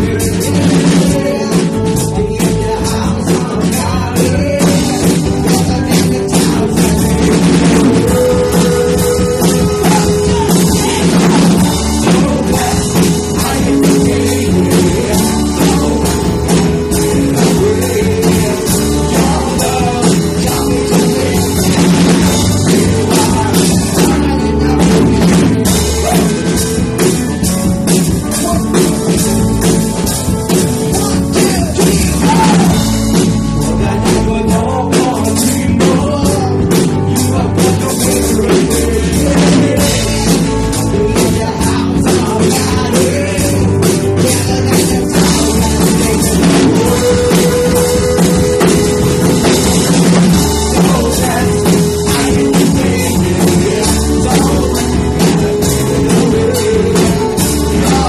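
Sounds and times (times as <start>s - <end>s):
drum kit beat: 0.0s - 58.0s
rock band playing live: 0.0s - 58.0s.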